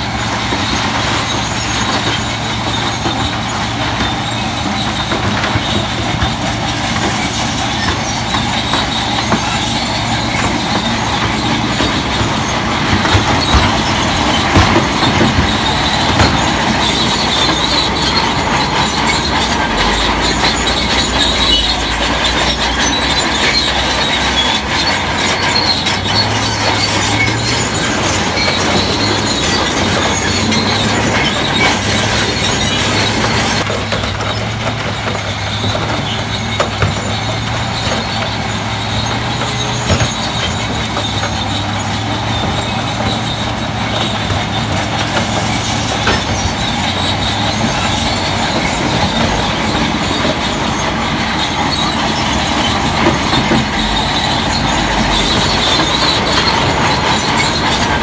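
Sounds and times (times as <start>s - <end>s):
bulldozer diesel engine droning: 0.0s - 58.0s
steel tracks squealing and clanking: 0.0s - 58.0s.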